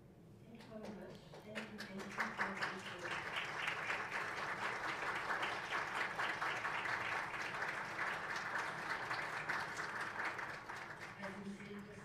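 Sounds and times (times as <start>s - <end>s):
room of people applauding: 0.6s - 12.0s.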